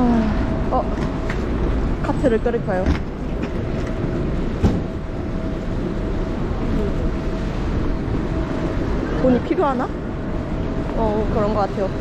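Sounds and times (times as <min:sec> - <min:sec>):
faint constant hum: 0:00.0 - 0:12.0
vehicle traffic rumble: 0:00.0 - 0:12.0.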